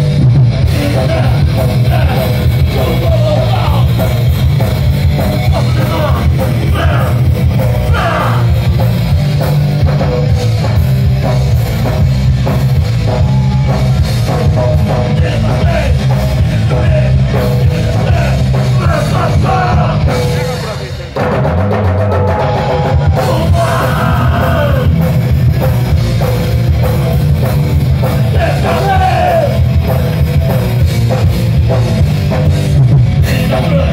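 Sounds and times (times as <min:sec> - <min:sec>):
bass guitar: 0:00.0 - 0:33.9
distorted electric guitars: 0:00.0 - 0:33.9
drum kit: 0:00.0 - 0:33.9.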